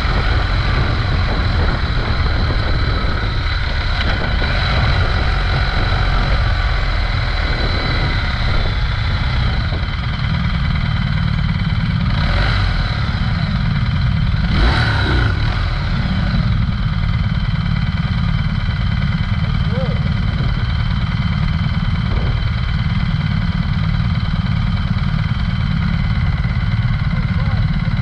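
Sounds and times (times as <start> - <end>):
motorcycle engines idling: 0.0 - 28.0.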